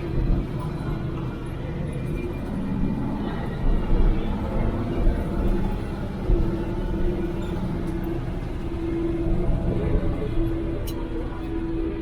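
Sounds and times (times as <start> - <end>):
diesel truck engine rumble: 0.0 - 12.0
steady engine whine: 0.0 - 12.0.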